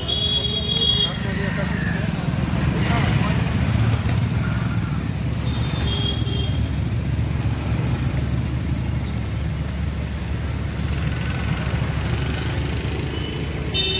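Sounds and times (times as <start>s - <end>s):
low rumble of road traffic: 0.0s - 13.9s.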